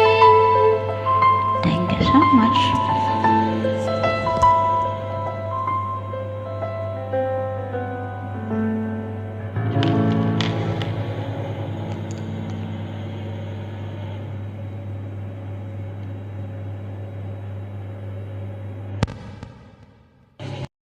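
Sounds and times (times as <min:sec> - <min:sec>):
final chord ringing out: 0:00.0 - 0:16.9
steady low hum: 0:00.0 - 0:20.7.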